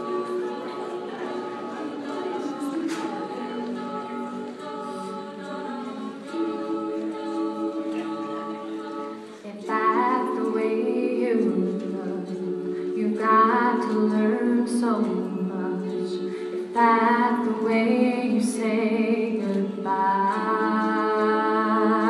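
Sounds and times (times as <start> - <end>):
women singing a cappella harmony: 0.0 - 22.0.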